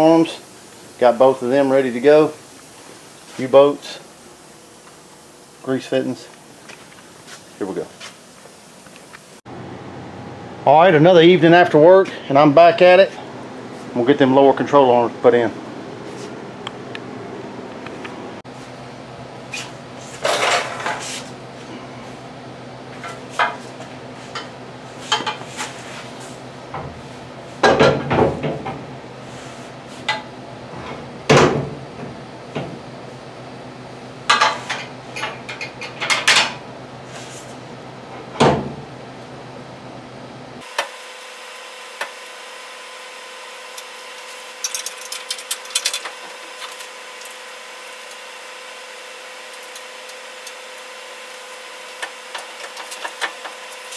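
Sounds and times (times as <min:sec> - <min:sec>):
steady hum: 0:00.0 - 0:53.9.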